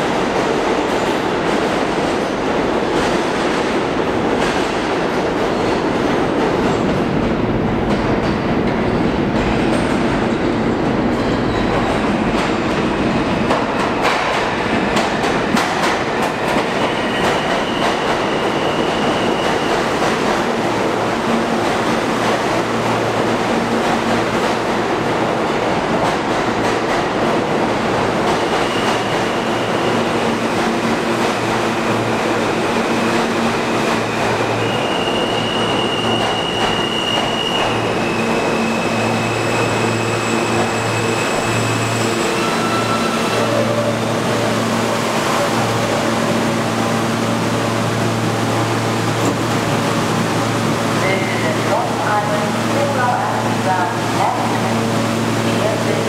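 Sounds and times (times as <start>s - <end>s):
subway train slowing to a stop: 0.0s - 56.0s.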